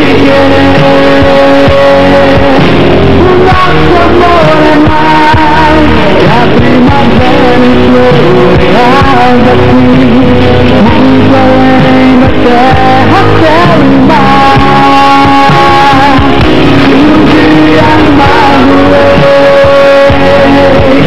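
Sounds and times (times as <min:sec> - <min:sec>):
band playing live: 0:00.0 - 0:21.0
bass guitar: 0:00.0 - 0:21.0
drum kit: 0:00.0 - 0:21.0
electric guitar: 0:00.0 - 0:21.0
melody holding long notes: 0:00.0 - 0:21.0.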